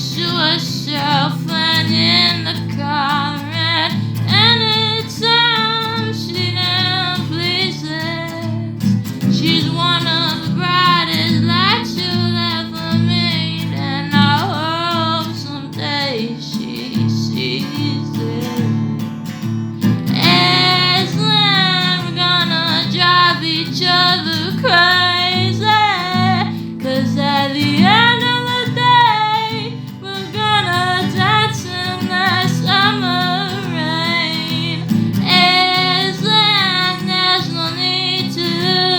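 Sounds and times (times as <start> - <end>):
acoustic guitar: 0.0 - 38.9
woman singing: 0.0 - 38.9.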